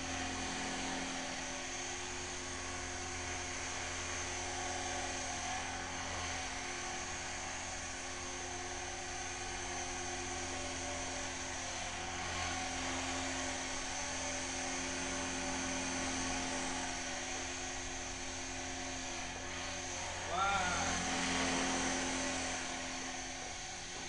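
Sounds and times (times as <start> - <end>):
electric motor whining: 0.0 - 24.0
rotor blades whirring: 0.0 - 24.0.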